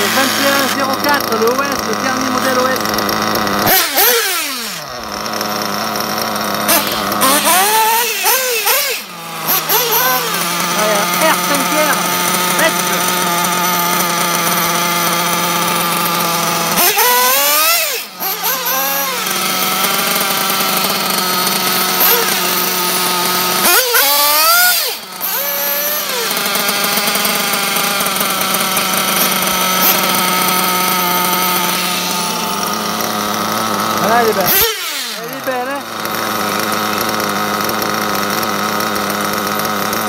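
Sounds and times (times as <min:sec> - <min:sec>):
engine throttle blips: 0:00.0 - 0:40.0
model car engines idling: 0:00.0 - 0:40.0.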